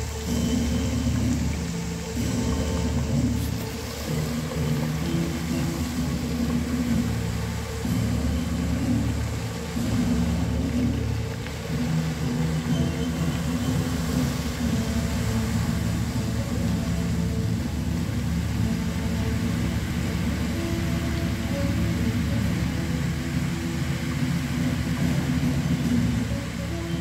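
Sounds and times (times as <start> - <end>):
fountain water jets rushing: 0.0 - 27.0
music over outdoor loudspeakers: 0.0 - 27.0.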